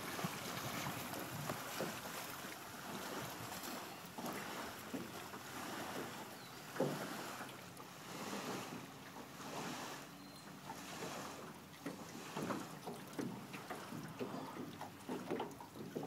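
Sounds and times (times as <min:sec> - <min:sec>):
water moving: 0:00.0 - 0:16.0.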